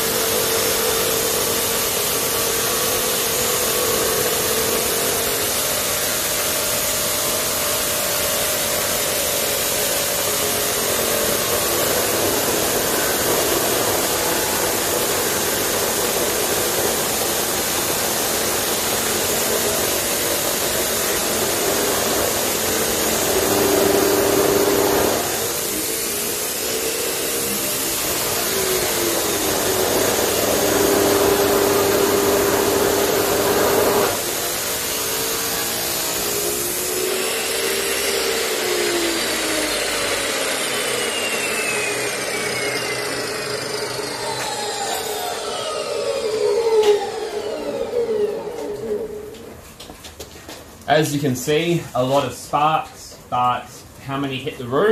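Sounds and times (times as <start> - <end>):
saw grinding through metal: 0.0 - 47.9
cut-off saw motor whine: 0.0 - 49.6.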